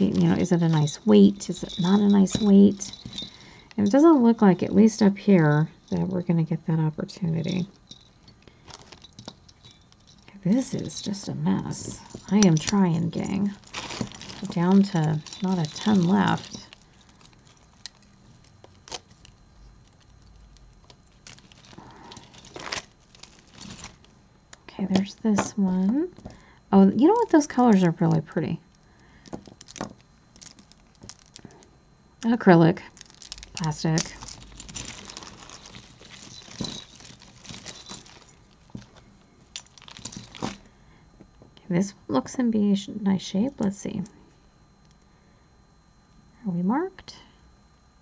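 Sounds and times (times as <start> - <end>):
plastic beads and chains clinking: 0.0 - 31.6, 32.2 - 40.7
jewelry clicking and rustling: 0.0 - 40.8.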